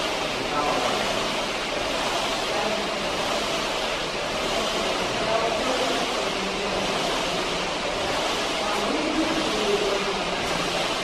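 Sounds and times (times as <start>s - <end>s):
flywheel whirring: 0.0s - 11.0s.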